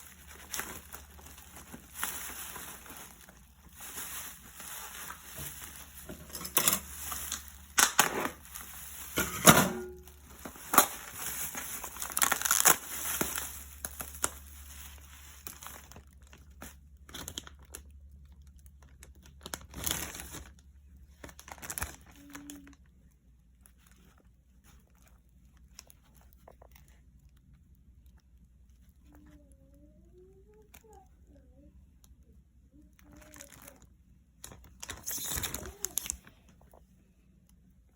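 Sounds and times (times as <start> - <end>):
plastic packaging crinkling: 0.0 - 29.4, 33.0 - 37.0.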